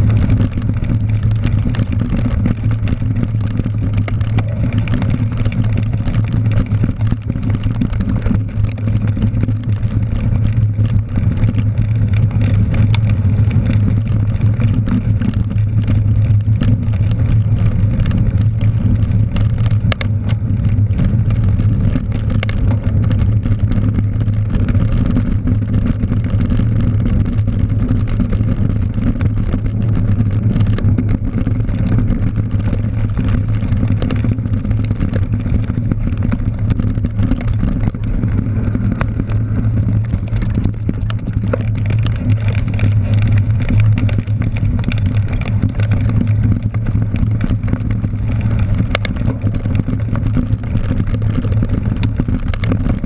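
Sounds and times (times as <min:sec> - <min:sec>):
bike clicks and rattles: 0:00.0 - 0:53.0
tyres rolling on gravel: 0:00.0 - 0:53.0
wind rumble on camera: 0:00.0 - 0:53.0.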